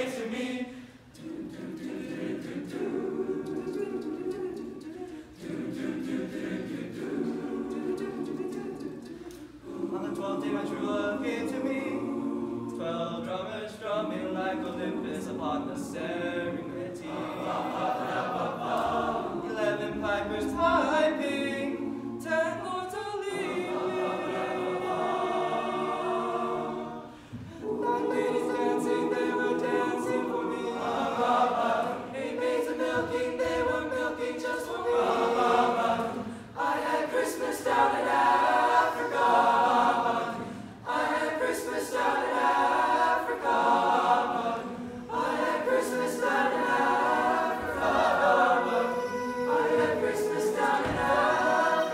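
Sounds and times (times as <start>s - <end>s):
boys' choir singing a cappella: 0.0s - 51.9s.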